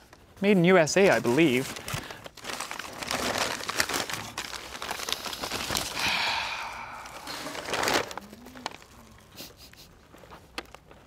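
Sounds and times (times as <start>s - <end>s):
paper and bubble wrap crinkling: 0.0s - 11.0s.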